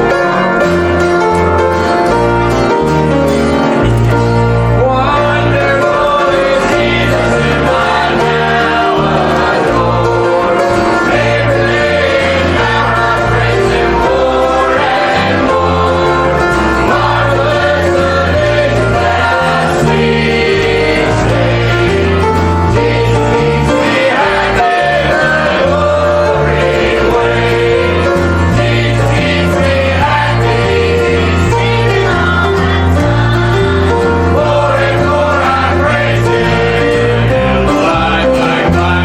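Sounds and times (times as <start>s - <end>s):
group singing gospel: 0.0s - 2.8s, 4.7s - 39.0s
piano with bass line: 0.0s - 39.0s.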